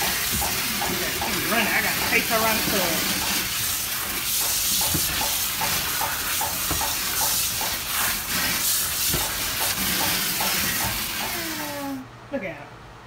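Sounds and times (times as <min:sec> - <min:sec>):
spray nozzle hissing: 0:00.0 - 0:12.0.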